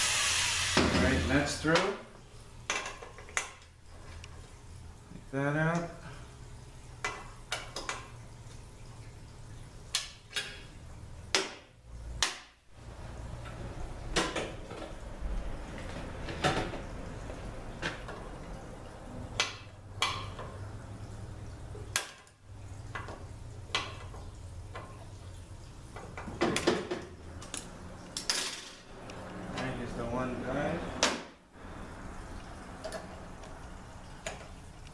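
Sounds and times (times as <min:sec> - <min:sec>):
low shop hum: 0:00.0 - 0:34.9.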